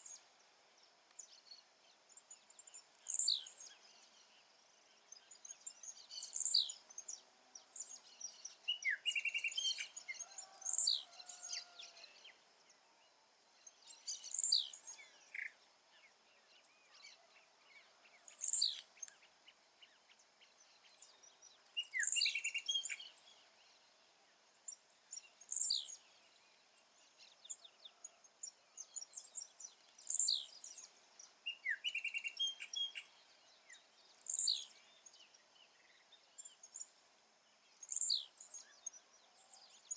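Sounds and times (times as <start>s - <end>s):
faint bird chirps: 1.0s - 39.9s.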